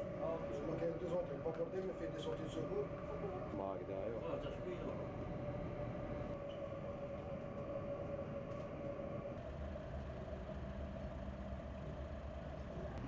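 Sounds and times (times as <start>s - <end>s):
ship machinery hum: 0.0s - 13.0s.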